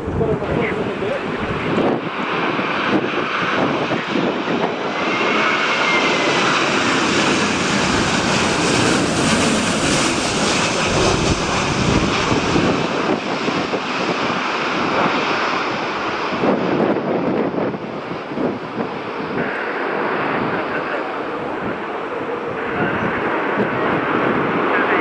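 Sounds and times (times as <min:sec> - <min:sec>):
airliner engines rushing: 0:00.0 - 0:25.0.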